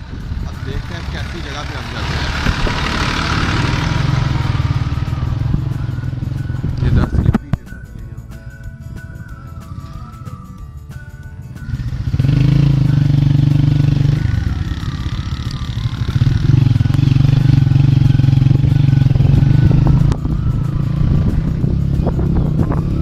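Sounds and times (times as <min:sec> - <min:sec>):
background music: 0:00.0 - 0:23.0
motorcycle engine running: 0:00.0 - 0:23.0.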